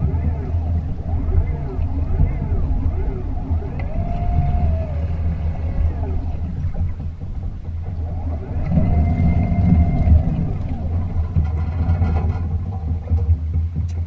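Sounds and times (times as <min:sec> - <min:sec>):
industrial vacuum machine running: 0:00.0 - 0:12.8.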